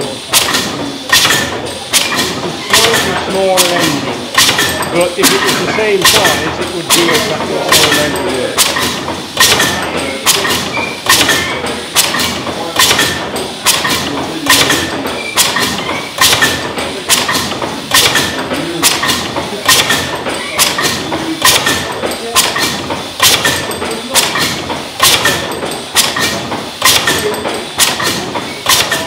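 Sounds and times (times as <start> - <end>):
sharp rhythmic knocks: 0.0 - 29.0
steam engine running: 0.0 - 29.0.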